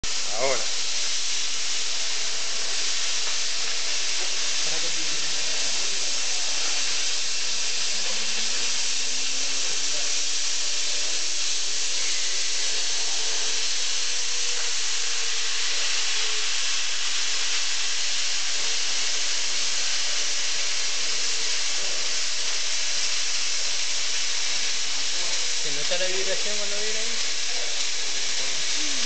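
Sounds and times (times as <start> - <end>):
cutting torch hissing: 0.0 - 29.0.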